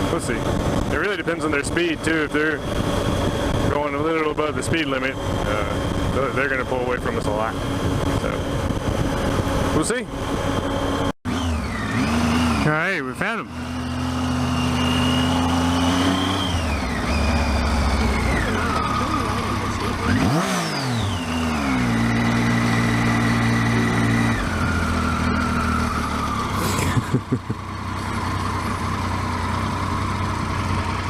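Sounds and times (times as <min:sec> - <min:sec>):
motorcycle engine changing gears: 0:00.0 - 0:31.0.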